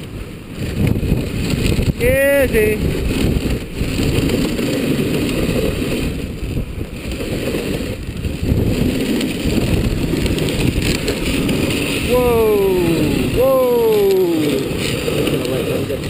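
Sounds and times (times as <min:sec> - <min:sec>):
sled sliding over snow: 0:00.0 - 0:16.0
wind rumble on microphone: 0:00.0 - 0:16.0.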